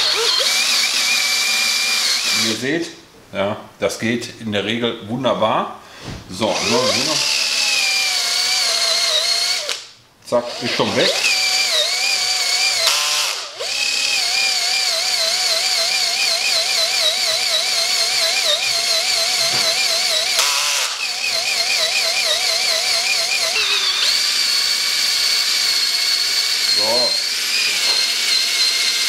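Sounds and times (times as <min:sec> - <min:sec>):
cordless drill motor whine: 0:00.0 - 0:02.6, 0:06.6 - 0:09.9, 0:10.5 - 0:29.0.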